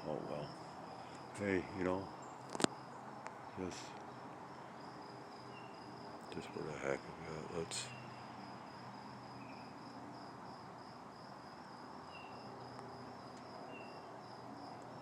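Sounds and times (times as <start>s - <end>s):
background hiss: 0.0s - 15.0s
insects trilling: 0.0s - 15.0s.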